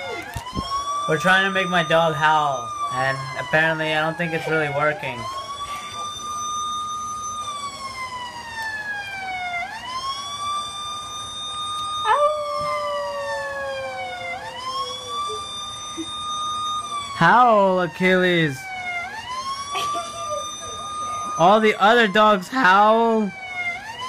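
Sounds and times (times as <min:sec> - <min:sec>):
siren-like wails from a speaker: 0:00.0 - 0:24.0.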